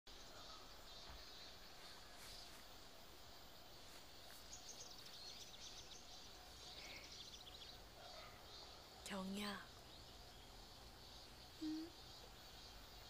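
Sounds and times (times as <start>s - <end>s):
small birds twittering faintly: 0.1s - 13.0s.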